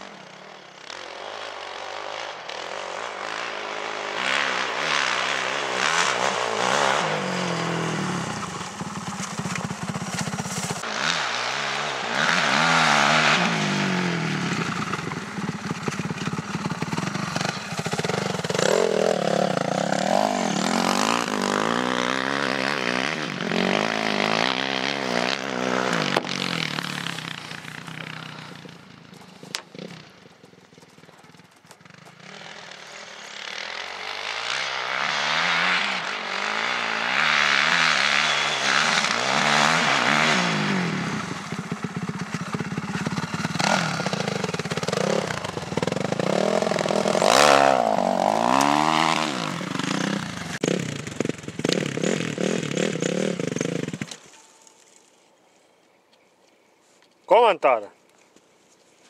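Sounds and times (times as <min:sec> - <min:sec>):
motocross bike engine revving: 0:00.0 - 0:30.2, 0:31.3 - 0:54.3.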